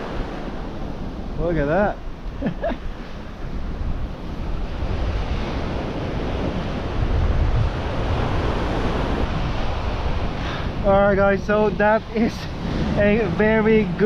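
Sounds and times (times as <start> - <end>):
surf breaking on beach: 0.0 - 14.0
wind buffeting microphone: 0.0 - 14.0.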